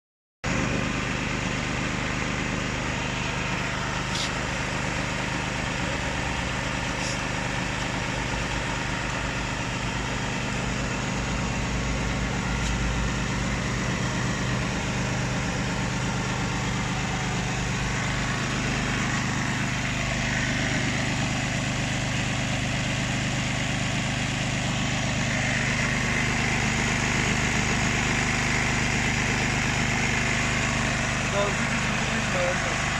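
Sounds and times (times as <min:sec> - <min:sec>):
generator engine running: 0:00.4 - 0:32.9.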